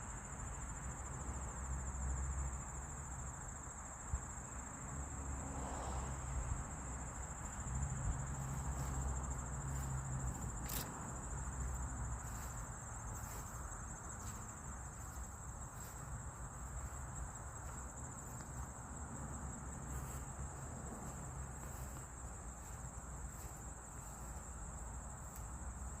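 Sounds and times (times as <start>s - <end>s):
insects trilling: 0.2s - 26.0s.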